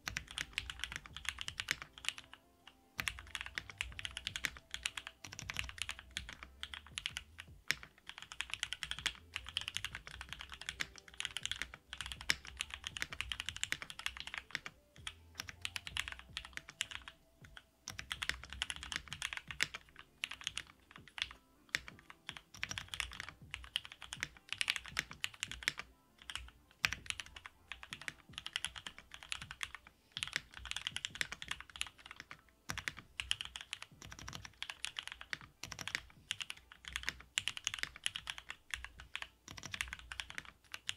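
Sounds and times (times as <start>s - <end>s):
typing on mechanical keyboard: 0.0s - 40.9s.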